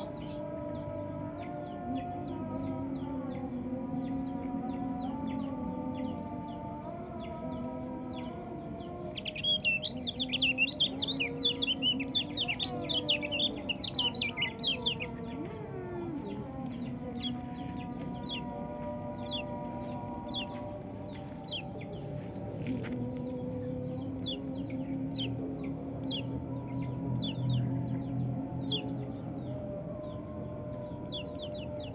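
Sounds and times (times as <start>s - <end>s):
bird chirping and twittering: 0.0s - 3.1s, 8.1s - 22.2s, 23.3s - 31.9s.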